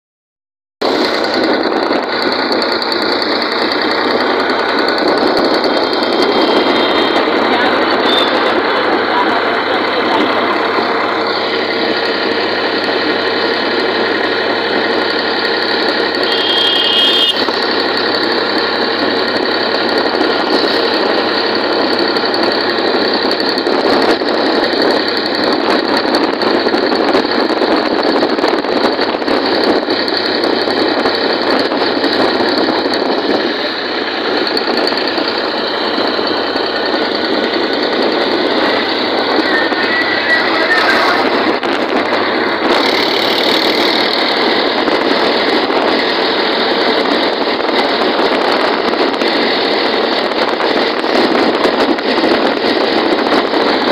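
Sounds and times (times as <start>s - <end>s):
tractor diesel engine running: 0.8s - 53.9s.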